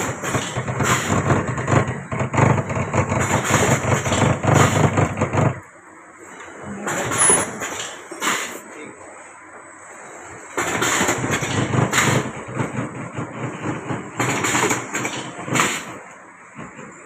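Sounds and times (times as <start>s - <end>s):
packing machine clattering: 0.0s - 5.7s, 6.8s - 8.6s, 10.5s - 17.0s.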